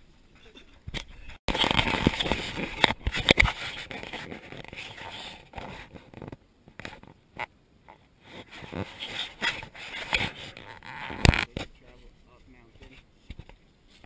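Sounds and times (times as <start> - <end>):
branches scraping and rustling: 1.3 - 7.2, 8.2 - 14.0.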